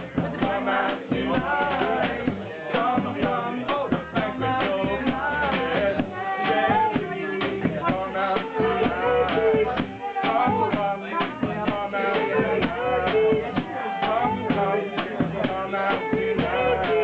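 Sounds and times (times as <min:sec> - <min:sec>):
double bass: 0:00.0 - 0:17.0
drum kit beat: 0:00.0 - 0:17.0
live funk band playing: 0:00.0 - 0:17.0.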